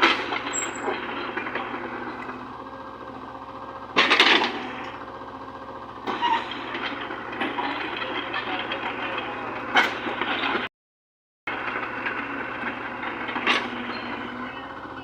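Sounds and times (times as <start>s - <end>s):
excavator engine running: 0.0s - 10.7s, 11.5s - 15.0s.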